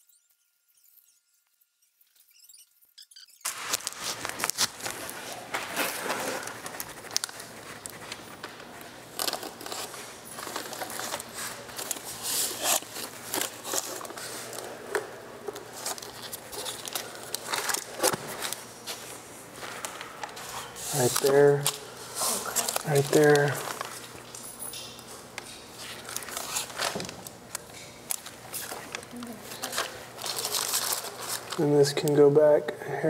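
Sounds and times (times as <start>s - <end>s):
plastic film crinkling: 3.4s - 24.5s, 25.4s - 31.7s.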